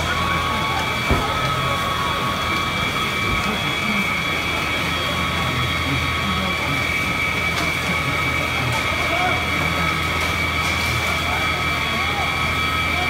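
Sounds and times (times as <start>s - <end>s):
fire engine pump droning: 0.0s - 13.0s.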